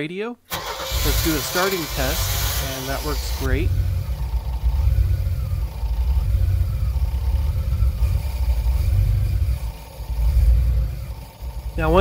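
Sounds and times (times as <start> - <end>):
boat engine rough idle: 1.3 - 12.0.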